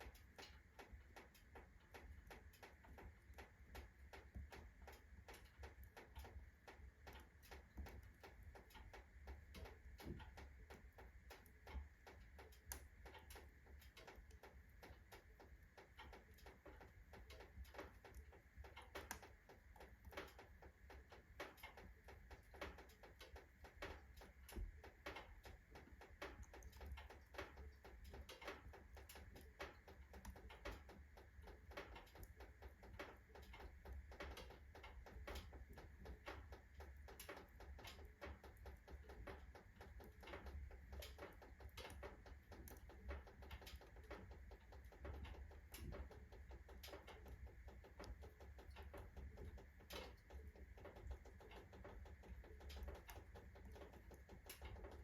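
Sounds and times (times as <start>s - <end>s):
iron stove ticking: 0.0s - 55.0s
kindling burning and crackling: 0.0s - 55.0s.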